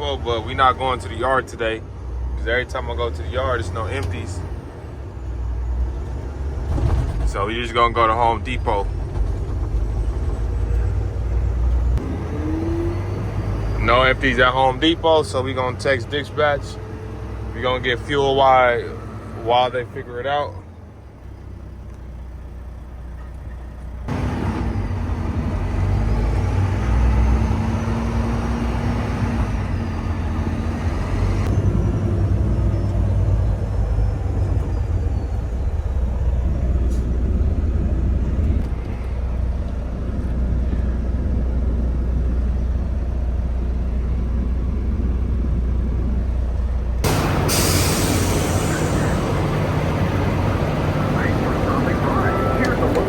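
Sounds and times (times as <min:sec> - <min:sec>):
truck engine and road rumble: 0:00.0 - 0:53.0.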